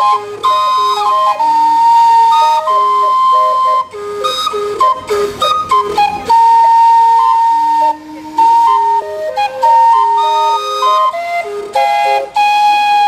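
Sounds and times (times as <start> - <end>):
steam calliope playing a tune: 0.0 - 13.0
steam hissing: 0.0 - 13.0.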